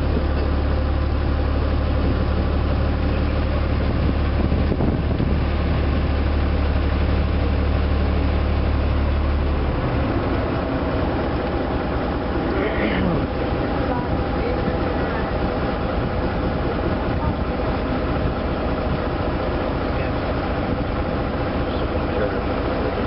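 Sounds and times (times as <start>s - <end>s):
boat engine droning: 0.0s - 23.0s
wind and water hiss: 0.0s - 23.0s.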